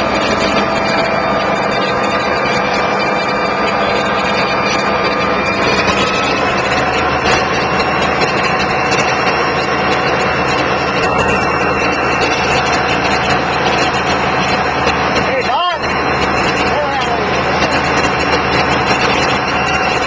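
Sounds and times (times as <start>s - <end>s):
diesel locomotive engine running: 0.0s - 20.0s.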